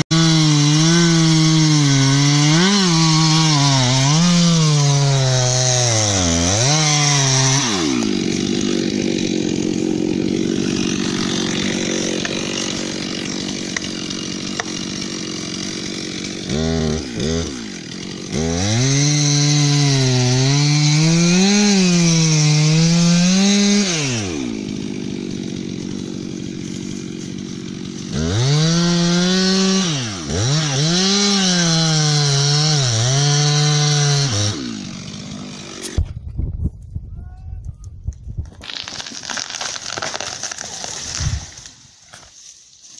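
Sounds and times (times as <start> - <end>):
chainsaw cutting tree: 0.0 - 36.3, 38.5 - 42.4.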